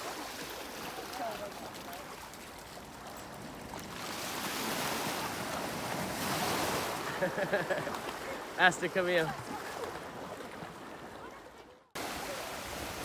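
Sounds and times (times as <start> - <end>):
waves washing onto beach: 0.0 - 13.0.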